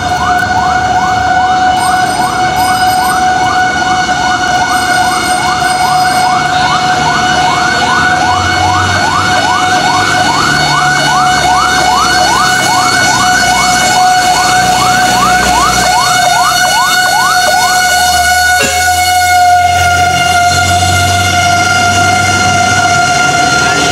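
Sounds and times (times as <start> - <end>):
fire truck siren yelping: 0.0 - 23.9.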